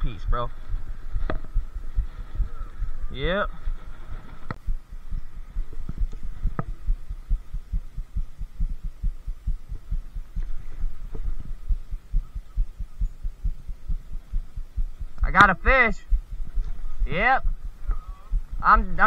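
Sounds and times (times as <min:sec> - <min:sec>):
faint steady hum: 0:00.0 - 0:19.0
low thudding rumble: 0:00.0 - 0:19.0.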